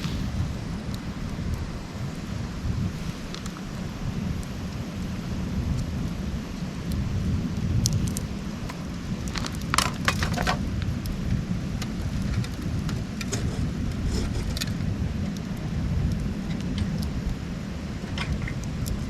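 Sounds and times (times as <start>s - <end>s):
campfire crackling and popping: 0.0s - 19.0s
low rumble: 0.0s - 19.0s.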